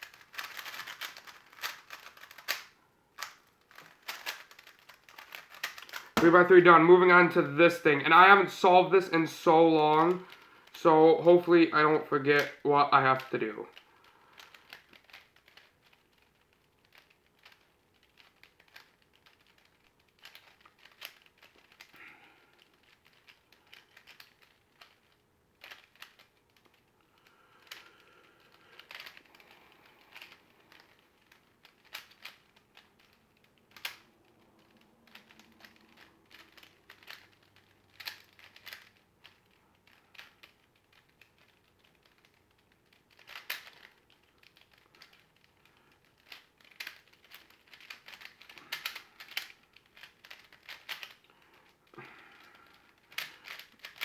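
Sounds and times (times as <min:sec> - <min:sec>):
puzzle cube layers clicking: 0:00.0 - 0:22.0, 0:22.6 - 0:54.0.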